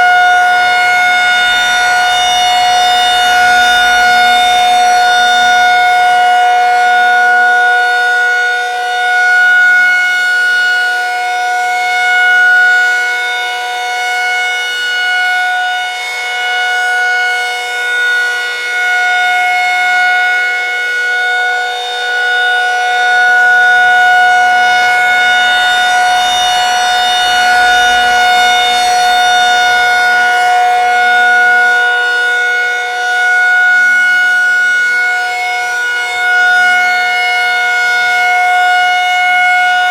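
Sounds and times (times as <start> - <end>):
rotating warning siren wail: 0.0 - 39.9.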